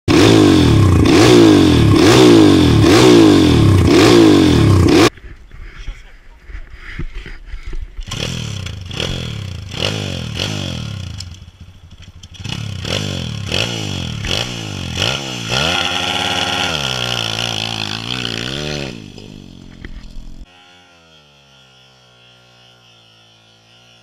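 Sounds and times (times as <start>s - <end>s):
motorbike engine revving: 0.1s - 5.2s, 7.9s - 24.0s.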